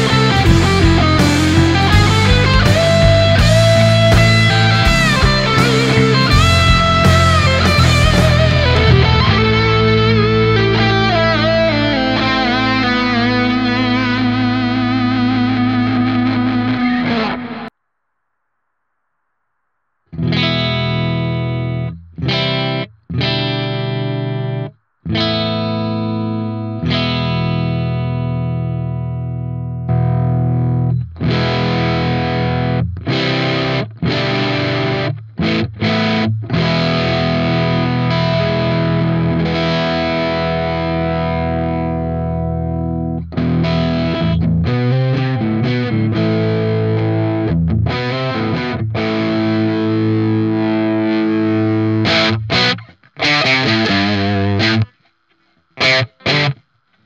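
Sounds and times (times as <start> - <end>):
distorted electric guitar: 0.0 - 17.7, 20.1 - 57.0.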